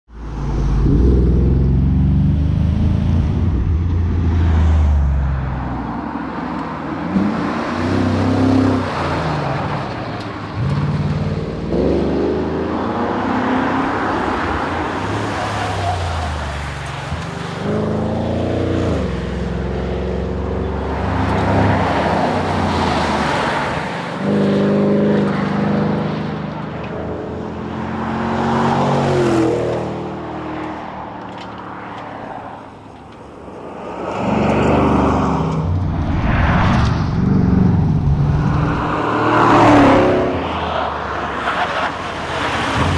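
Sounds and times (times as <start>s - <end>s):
road and wind noise: 0.1s - 42.9s.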